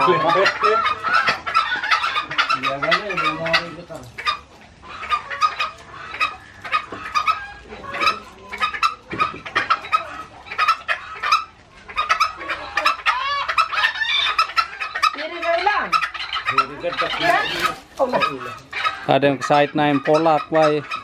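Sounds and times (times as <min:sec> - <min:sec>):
chicken squawk: 0:00.0 - 0:21.0
chickens clucking: 0:00.0 - 0:21.0.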